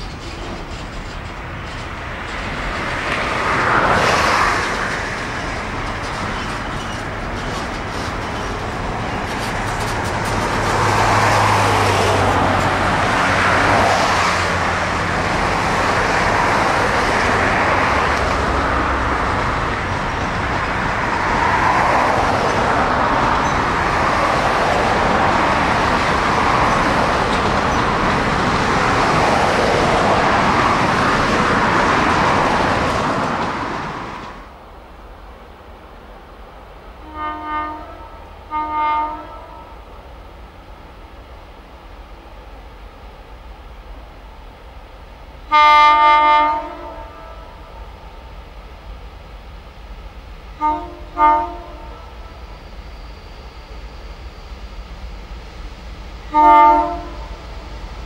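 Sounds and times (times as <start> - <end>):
freight train wheels rumbling on rail: 0.0 - 58.0.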